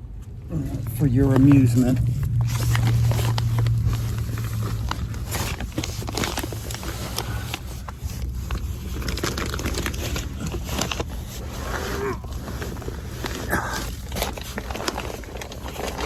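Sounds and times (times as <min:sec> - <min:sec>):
clothing scraping and rustling: 0:00.2 - 0:16.0.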